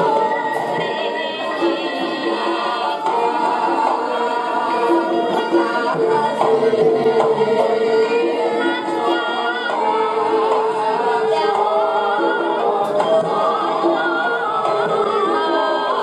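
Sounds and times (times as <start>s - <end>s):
gamelan music: 0.0s - 16.0s.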